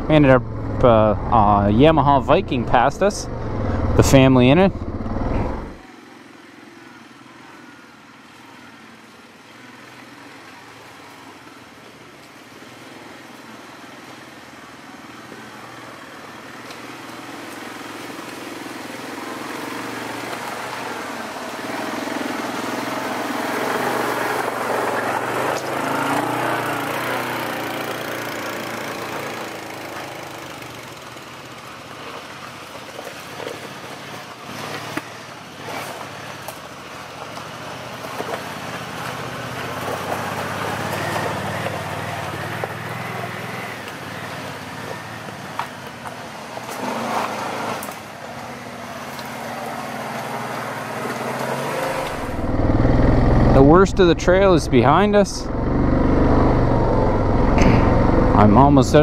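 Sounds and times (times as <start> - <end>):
atv engine running: 0.0 - 5.8, 12.4 - 59.0.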